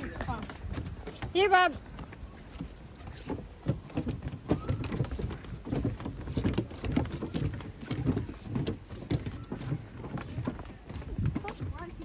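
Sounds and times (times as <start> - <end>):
footsteps on wooden boardwalk: 0.0 - 12.0.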